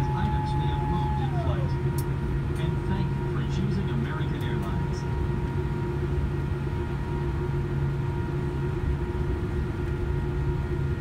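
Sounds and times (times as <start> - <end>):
airplane cabin rumble: 0.0 - 11.0
steady hum tones: 0.0 - 11.0.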